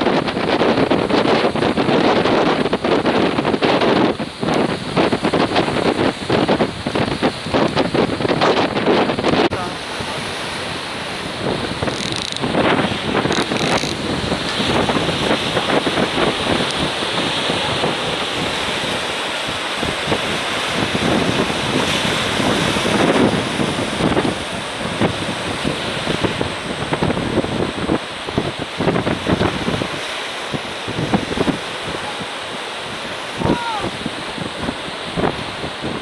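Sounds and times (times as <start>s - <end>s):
sea waves breaking on concrete: 0.0s - 36.0s
wind buffeting microphone: 0.0s - 36.0s.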